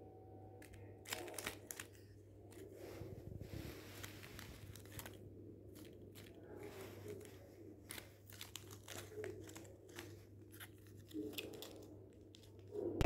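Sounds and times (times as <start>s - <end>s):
paper wrapper crinkling: 0.6s - 12.8s.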